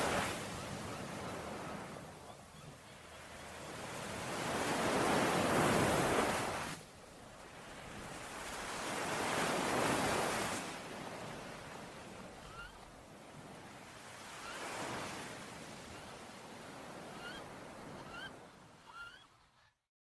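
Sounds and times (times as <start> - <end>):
ocean waves on shore: 0.0 - 19.7.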